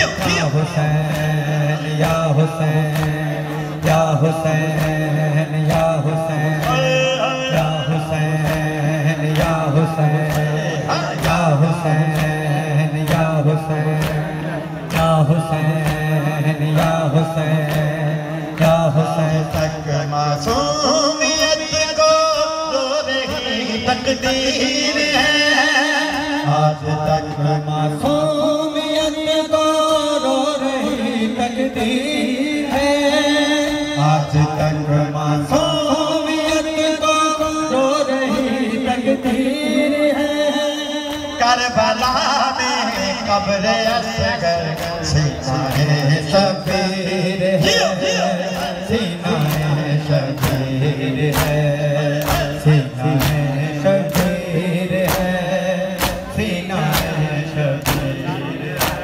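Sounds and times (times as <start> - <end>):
man singing a lament over loudspeakers: 0.0 - 59.0.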